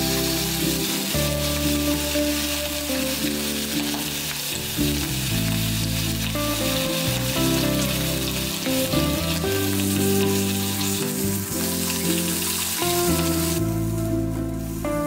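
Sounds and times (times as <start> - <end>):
meat sizzling in a frying pan: 0.0 - 14.0
background music: 0.0 - 15.0.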